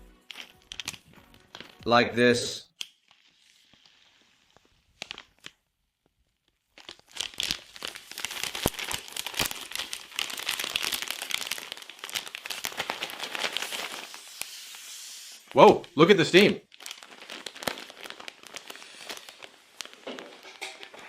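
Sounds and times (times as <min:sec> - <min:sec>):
flameless heater crinkling and crackling: 0:00.0 - 0:21.0.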